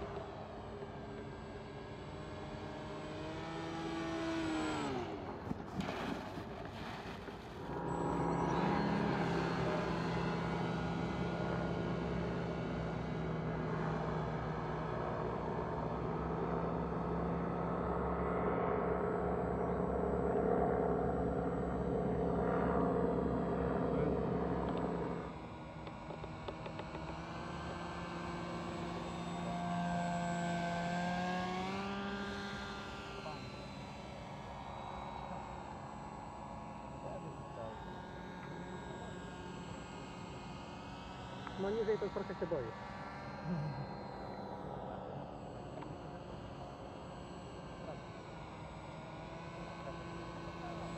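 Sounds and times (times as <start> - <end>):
small motor and propeller: 0.0 - 50.9.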